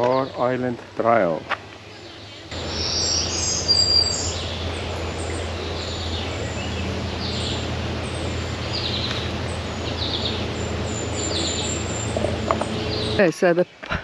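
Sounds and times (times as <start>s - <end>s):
songbirds chirping: 0.0s - 14.0s
steady background rush: 1.6s - 13.6s.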